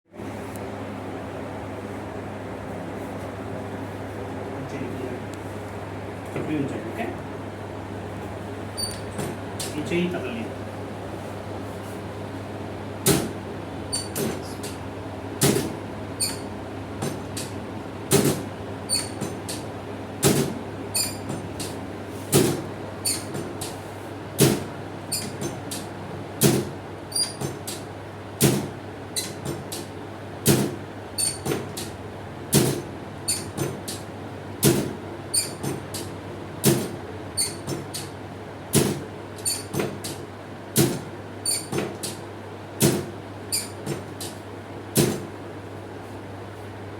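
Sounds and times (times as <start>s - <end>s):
steady low hum: 0.1s - 46.9s.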